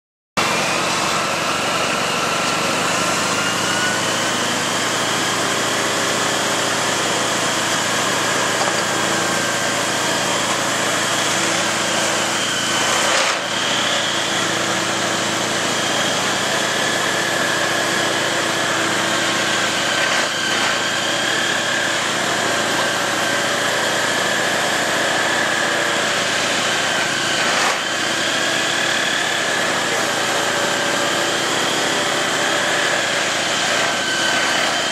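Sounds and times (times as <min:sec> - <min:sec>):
track tamping machine din: 0:00.4 - 0:34.9.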